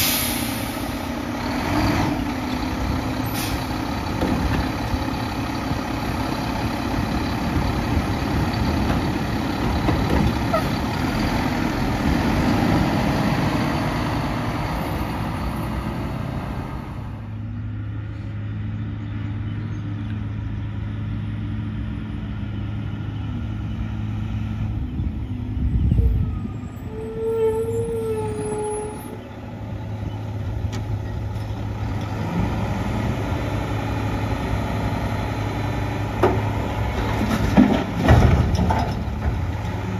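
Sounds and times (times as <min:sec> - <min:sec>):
garbage truck engine and hydraulics: 0:00.0 - 0:39.9.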